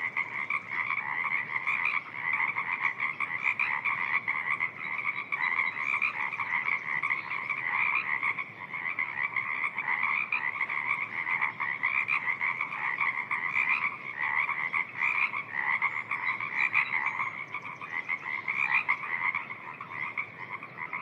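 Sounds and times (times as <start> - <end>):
chorus of frogs calling: 0.0 - 21.0.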